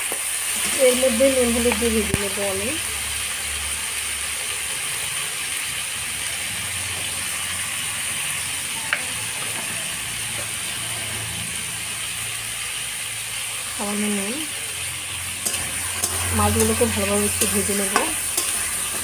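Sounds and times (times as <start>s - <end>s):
prawns frying in hot oil: 0.0s - 19.0s.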